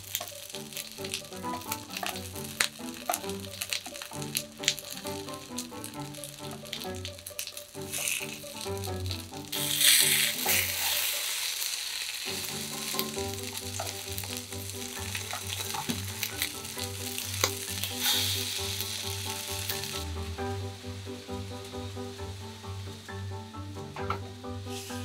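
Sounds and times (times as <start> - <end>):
fish sizzling in oil: 0.0 - 25.0
soft background music: 0.0 - 25.0.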